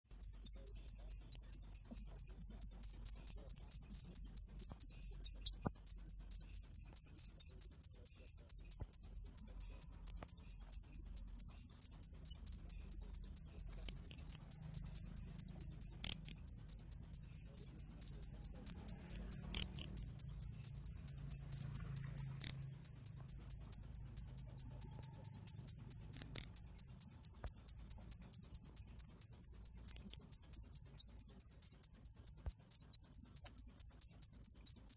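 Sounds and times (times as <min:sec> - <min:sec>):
insect chirping: 0:00.1 - 0:34.9.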